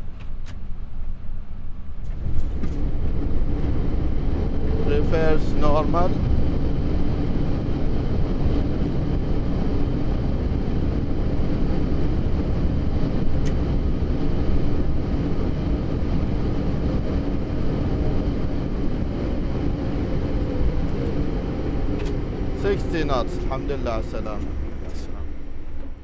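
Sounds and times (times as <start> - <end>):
jet engines in reverse thrust: 0.0 - 26.0
runway and airframe noise: 0.0 - 26.0.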